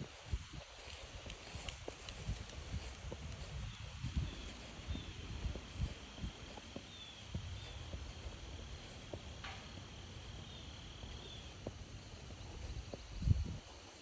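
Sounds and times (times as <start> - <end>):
soft footsteps on forest trail: 0.0 - 14.0
crickets chirring: 0.1 - 14.0.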